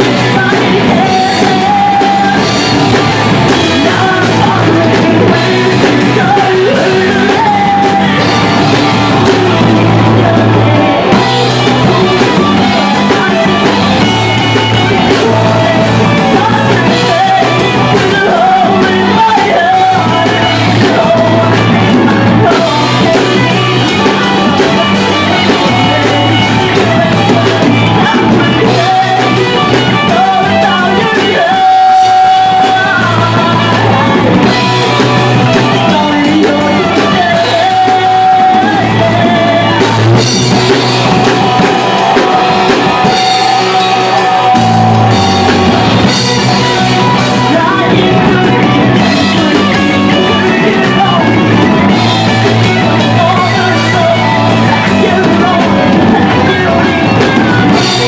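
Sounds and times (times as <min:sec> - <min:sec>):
live rock band playing: 0:00.0 - 0:58.0
woman singing: 0:00.0 - 0:58.0.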